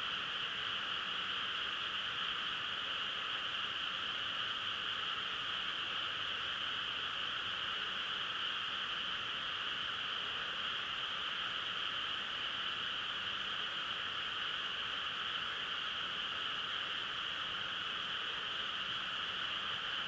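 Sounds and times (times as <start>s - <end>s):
faint rain hiss: 0.0s - 20.0s
frogs chorus: 0.0s - 20.0s.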